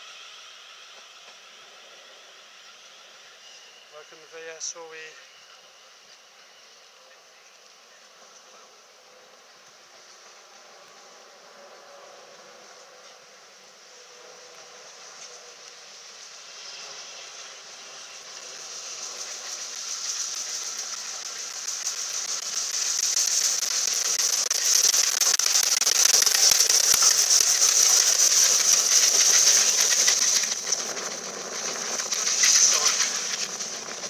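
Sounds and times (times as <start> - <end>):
steam hissing: 0.0 - 34.0
steam locomotive passing: 0.0 - 34.0.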